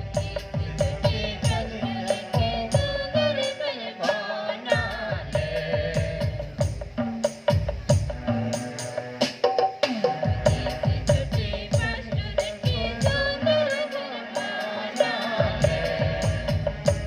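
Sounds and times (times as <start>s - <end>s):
hand drum rhythm: 0.0s - 17.0s.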